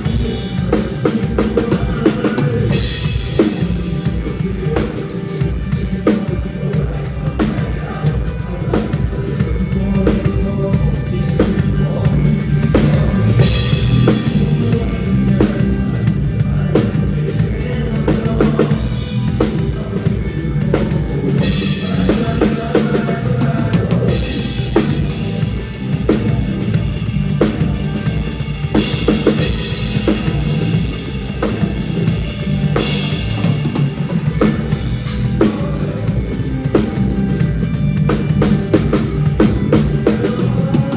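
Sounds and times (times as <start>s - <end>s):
band music: 0.0s - 40.9s
drum kit beat: 0.0s - 40.9s.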